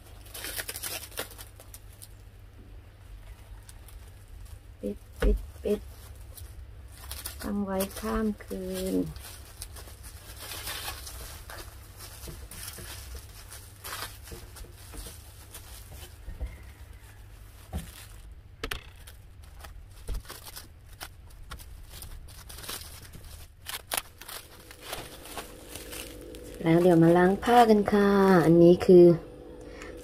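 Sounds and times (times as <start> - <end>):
plastic film crinkling: 0.0 - 2.4, 3.1 - 28.5.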